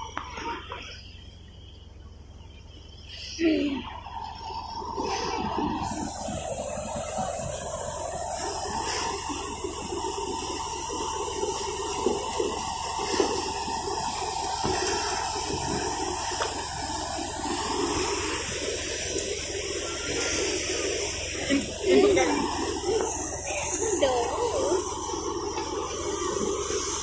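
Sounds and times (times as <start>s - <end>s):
thresher machine hum: 2.1s - 27.0s
rushing hiss of grain pouring: 4.0s - 27.0s.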